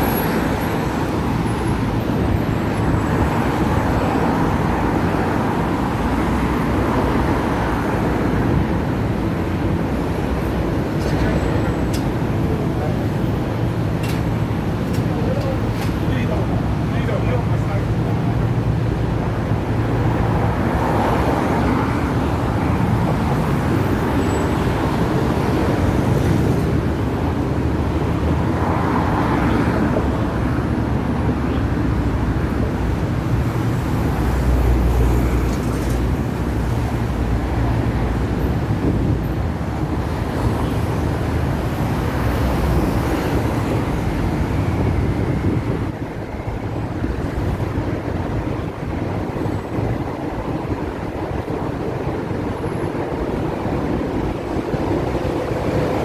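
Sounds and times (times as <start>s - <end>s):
street traffic: 0.0s - 56.0s
tram rumbling on rails: 0.0s - 56.0s.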